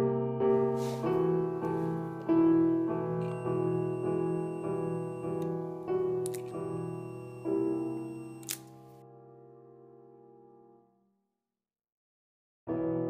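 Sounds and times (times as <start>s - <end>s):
classical piano music: 0.0s - 10.8s, 12.7s - 13.0s.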